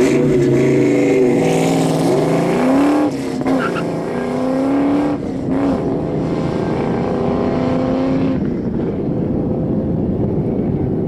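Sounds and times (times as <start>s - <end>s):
car engine accelerating: 0.0s - 11.0s
wind noise: 0.0s - 11.0s.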